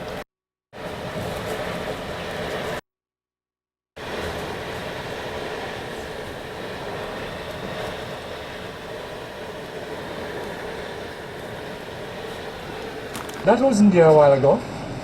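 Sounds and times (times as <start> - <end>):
strong wind rushing and howling: 0.8 - 2.8, 4.0 - 15.0.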